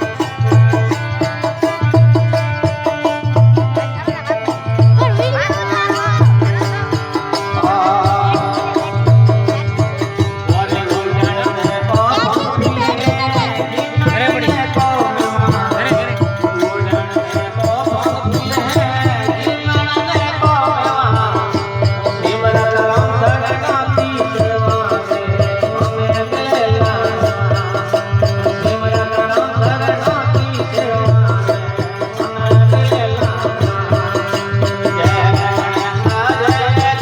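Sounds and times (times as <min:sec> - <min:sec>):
hand drum rhythm: 0:00.0 - 0:37.0.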